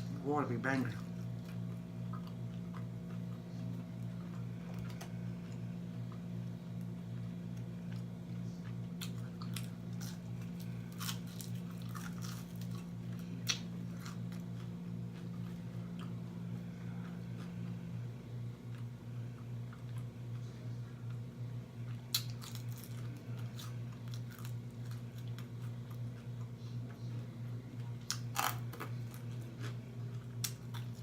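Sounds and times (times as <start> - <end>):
steady low hum: 0.0 - 31.0
person chewing crunchy food: 0.8 - 18.0, 21.8 - 27.0, 27.8 - 31.0.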